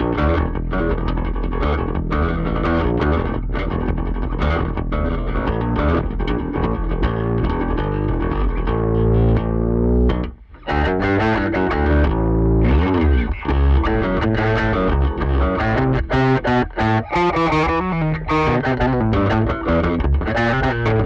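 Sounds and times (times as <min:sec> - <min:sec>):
distorted electric bass riff: 0:00.0 - 0:21.0.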